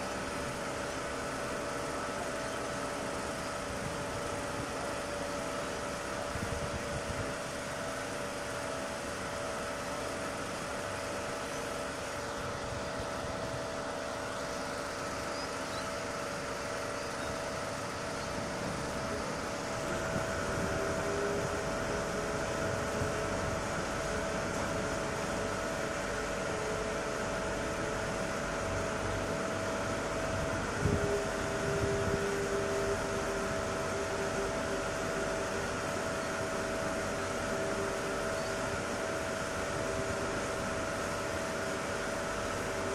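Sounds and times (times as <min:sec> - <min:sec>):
ferry diesel engines droning: 0:00.0 - 0:42.9.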